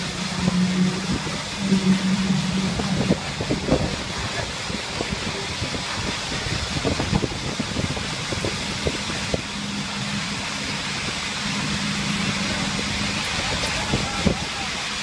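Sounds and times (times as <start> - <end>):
low drone: 0.0 - 15.0
machinery engine running: 0.0 - 15.0.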